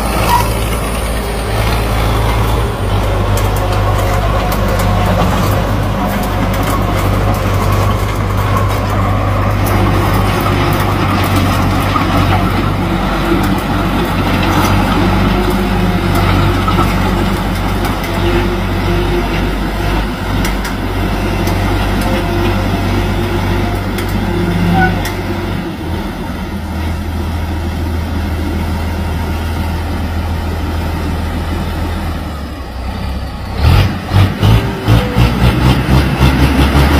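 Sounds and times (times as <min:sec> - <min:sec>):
diesel tractor engine running: 0:00.0 - 0:36.9.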